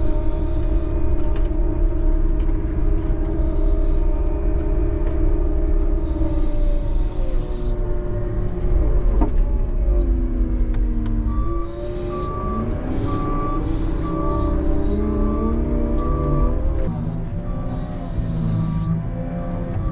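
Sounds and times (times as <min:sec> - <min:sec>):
deep engine rumble: 0:00.0 - 0:19.9.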